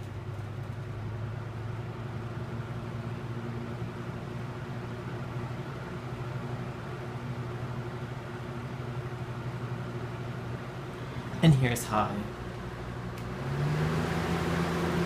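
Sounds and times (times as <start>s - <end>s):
fan motor hum: 0.0s - 15.0s.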